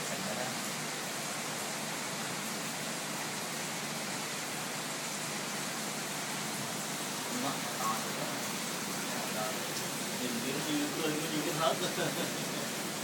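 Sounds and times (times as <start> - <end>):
water rushing in fish tank: 0.0 - 13.0.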